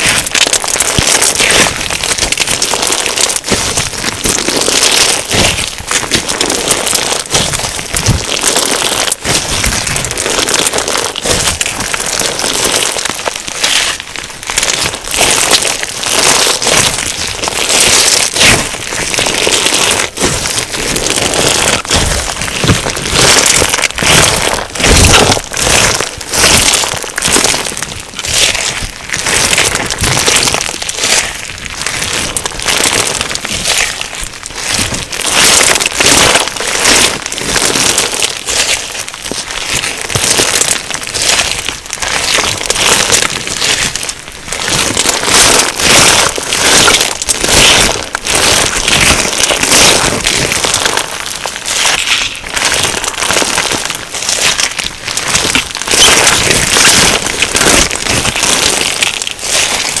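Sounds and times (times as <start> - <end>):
crunchy slime squished: 0.0 - 60.0.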